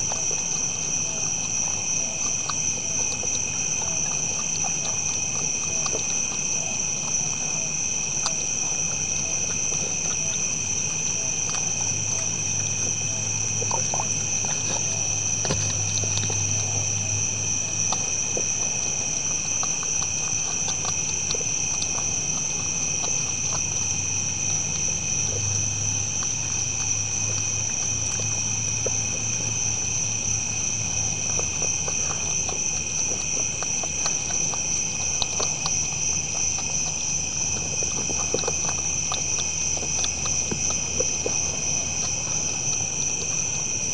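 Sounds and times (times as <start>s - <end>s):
deer feeding clicks and crunches: 0.0s - 43.9s
night insects trilling: 0.0s - 43.9s.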